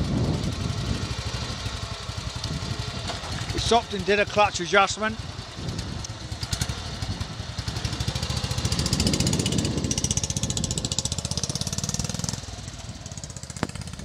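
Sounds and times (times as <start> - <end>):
motorcycle engine pulling away: 0.0 - 14.0.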